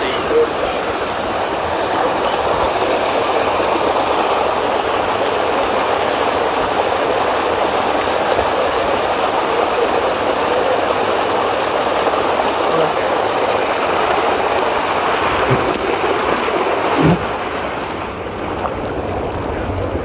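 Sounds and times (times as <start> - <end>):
water rushing down a flume: 0.0 - 20.0.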